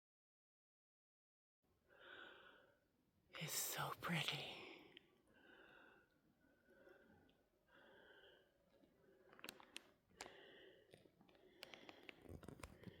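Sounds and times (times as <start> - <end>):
faint breathing: 1.8 - 13.0.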